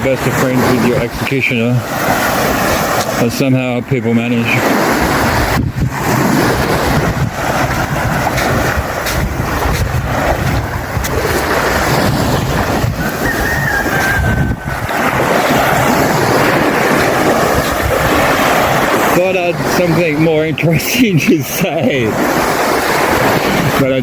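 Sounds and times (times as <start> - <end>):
surf washing on beach: 0.0 - 24.0
wind buffeting microphone: 0.0 - 24.0.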